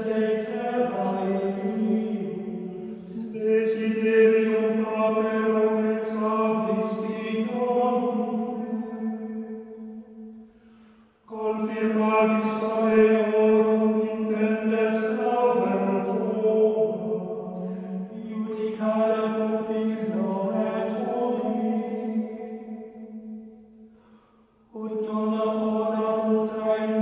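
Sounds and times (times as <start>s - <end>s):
psalm chanting: 0.0s - 27.0s.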